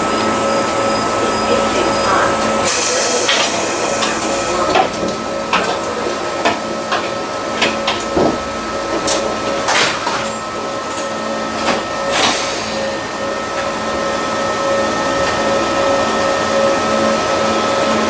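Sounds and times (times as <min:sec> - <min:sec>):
electric train motor hum: 0:00.0 - 0:18.0.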